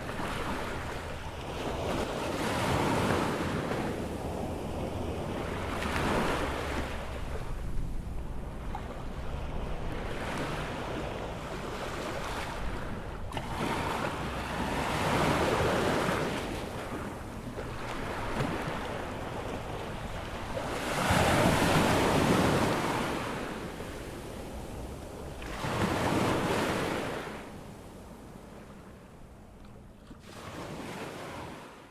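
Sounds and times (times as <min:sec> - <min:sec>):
wind rumble on microphone: 0:00.0 - 0:29.9
ocean waves breaking on beach: 0:00.0 - 0:31.9.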